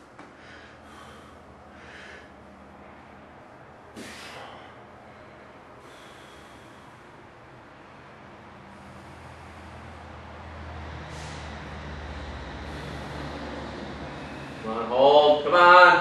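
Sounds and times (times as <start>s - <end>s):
man breathing hard: 0.0s - 14.8s.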